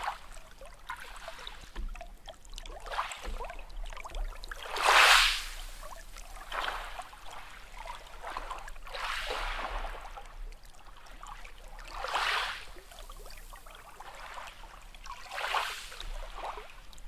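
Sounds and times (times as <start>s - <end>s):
small sea waves washing in: 0.0s - 17.0s
water trickling and fizzing: 0.0s - 17.0s.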